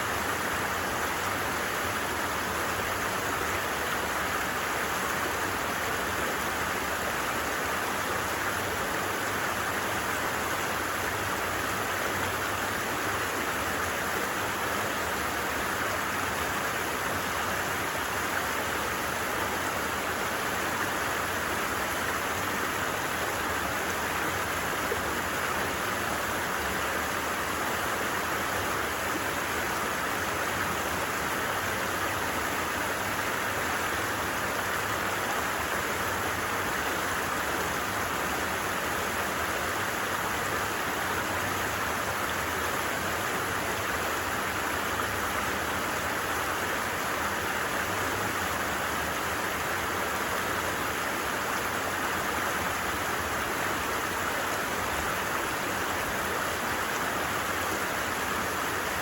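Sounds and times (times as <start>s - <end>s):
flowing creek babbling: 0.0s - 59.0s.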